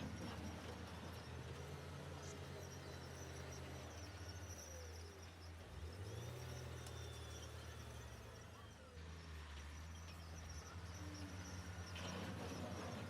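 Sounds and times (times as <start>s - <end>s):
heavy diesel engine humming: 0.0s - 13.0s.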